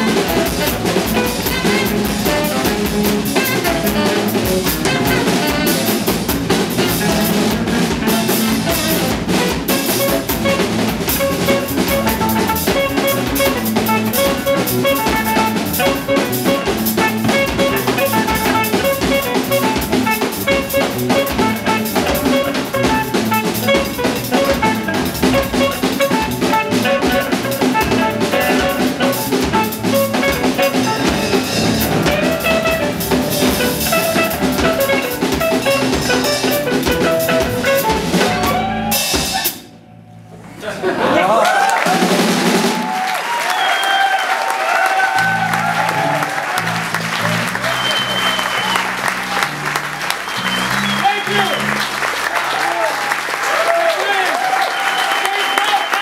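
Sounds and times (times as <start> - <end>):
busy drumming: 0.0 - 39.8, 41.0 - 56.0
live band playing free jazz: 0.0 - 40.0, 41.8 - 43.8, 44.4 - 56.0.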